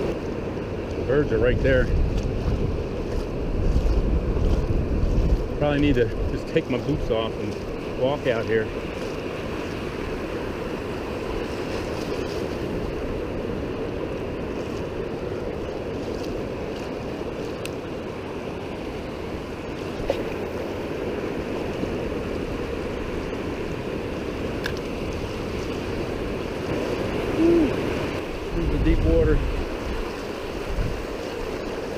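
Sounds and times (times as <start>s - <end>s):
ocean surf on sand: 0.0s - 31.9s
wind on microphone: 0.0s - 31.9s.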